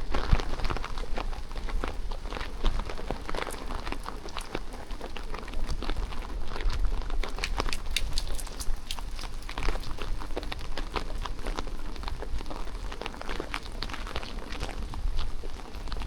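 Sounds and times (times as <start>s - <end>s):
raindrops pattering: 0.0s - 16.0s.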